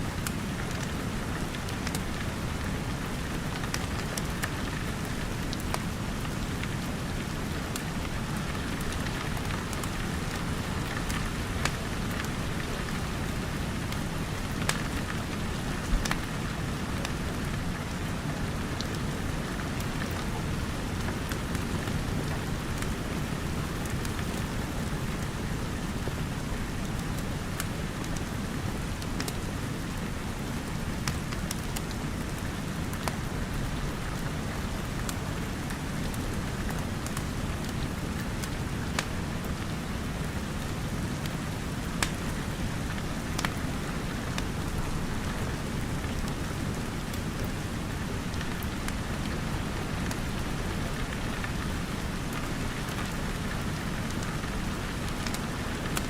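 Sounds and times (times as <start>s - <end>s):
rain falling: 0.0s - 56.0s
wood fire crackling: 0.2s - 29.4s, 30.0s - 56.0s.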